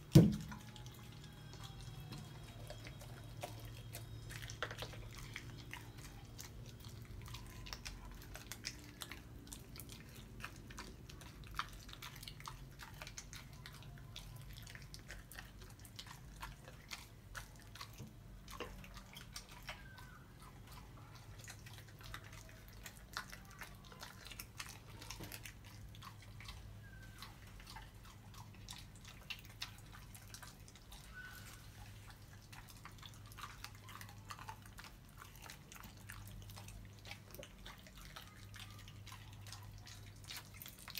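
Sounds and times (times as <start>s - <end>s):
puppy crunching bones: 0.0s - 40.9s.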